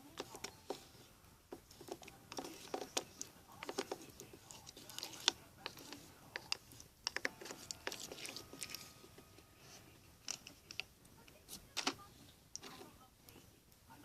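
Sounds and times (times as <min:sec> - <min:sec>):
slime squishing: 0:00.0 - 0:13.4.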